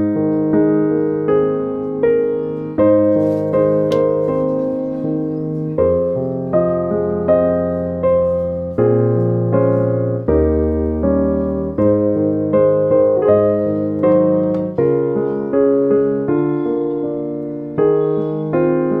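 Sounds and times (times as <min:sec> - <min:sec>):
background piano music: 0:00.0 - 0:19.0.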